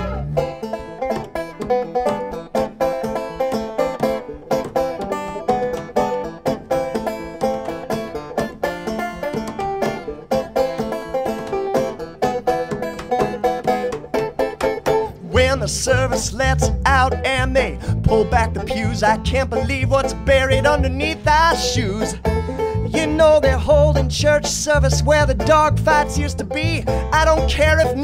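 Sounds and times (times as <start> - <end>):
folk country accompaniment: 0.0 - 28.0
plucked string picking: 0.0 - 28.0.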